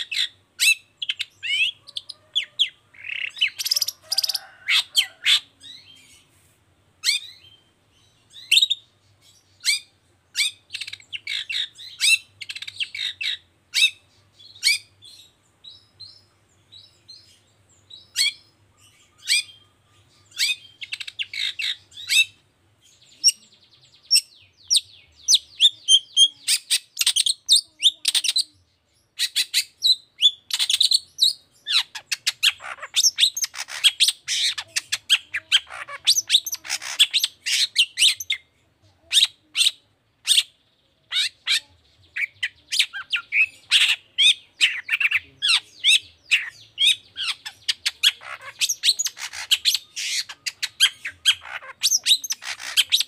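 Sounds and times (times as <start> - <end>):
bird chattering song: 0.0 - 6.3, 7.0 - 53.0.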